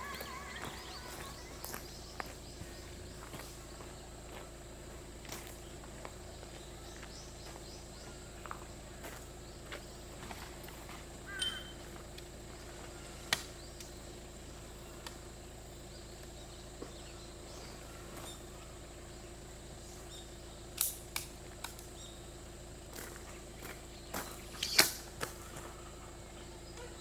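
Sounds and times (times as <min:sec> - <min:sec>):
bird chirp: 0:00.0 - 0:21.1, 0:21.7 - 0:27.0
high insect drone: 0:00.0 - 0:27.0.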